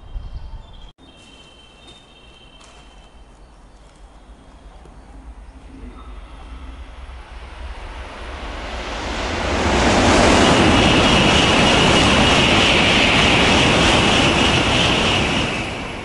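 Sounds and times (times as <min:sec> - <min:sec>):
high-speed train rushing past: 0:02.6 - 0:16.0.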